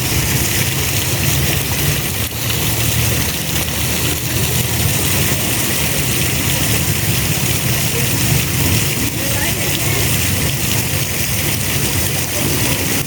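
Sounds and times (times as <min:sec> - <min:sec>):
falling water hissing: 0:00.0 - 0:13.0
low engine-like rumble: 0:00.0 - 0:13.0.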